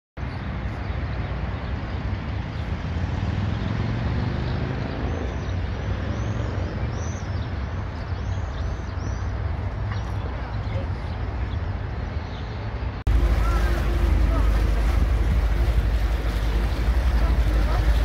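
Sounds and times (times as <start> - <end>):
distant road traffic rumble: 0.2 - 18.0.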